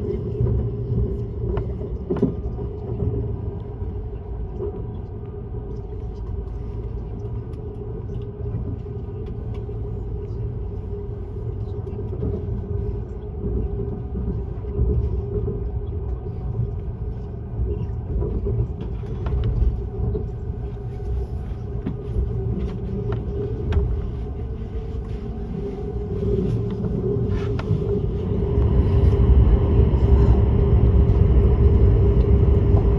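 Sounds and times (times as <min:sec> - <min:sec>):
train running with low rumble: 0:00.0 - 0:32.9.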